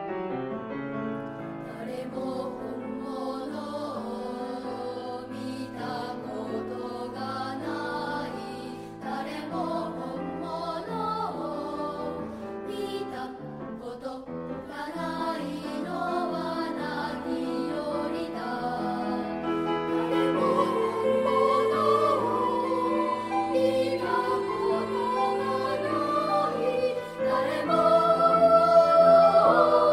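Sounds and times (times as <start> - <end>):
children's choir singing: 1.5 - 29.9.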